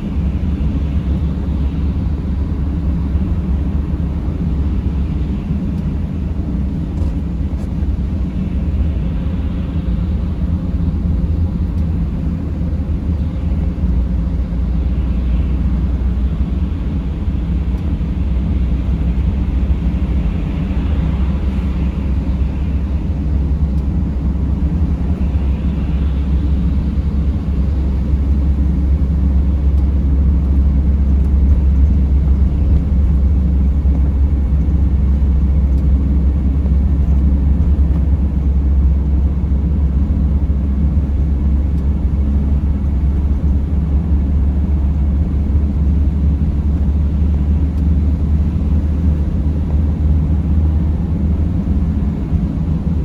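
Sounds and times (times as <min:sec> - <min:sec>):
van engine and tyres rumbling: 0:00.0 - 0:53.0.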